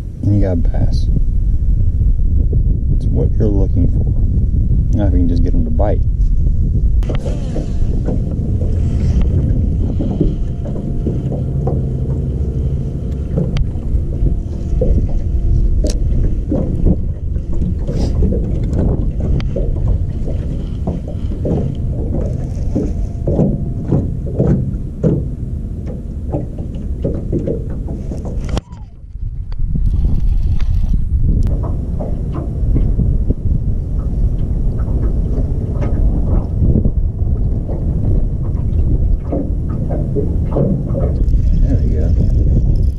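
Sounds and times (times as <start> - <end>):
faint steady hum: 0.0 - 42.9
wind buffeting microphone: 0.0 - 42.9
waves slapping boat hull: 1.2 - 42.9.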